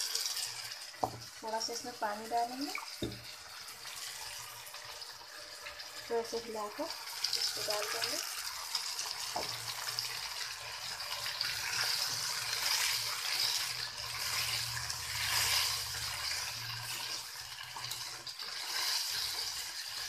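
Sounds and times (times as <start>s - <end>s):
paste sizzling in hot oil: 0.0s - 20.0s.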